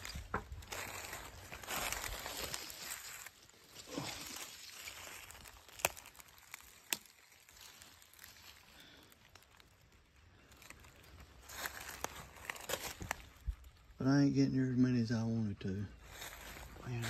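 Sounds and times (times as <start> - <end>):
dry leaves rustling and crackling: 0.0 - 14.0, 16.0 - 17.0.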